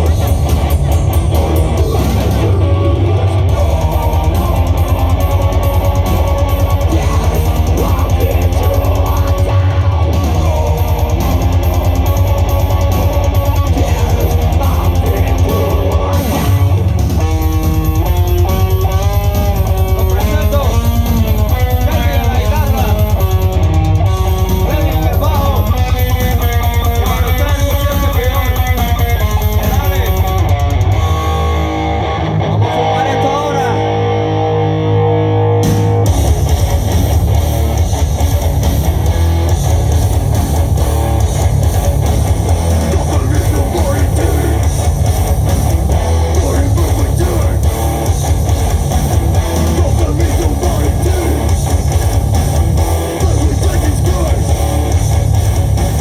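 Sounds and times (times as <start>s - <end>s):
drum kit fast beat: 0.0s - 31.6s, 35.6s - 56.0s
electric guitars: 0.0s - 56.0s
guitar melody line: 0.0s - 56.0s.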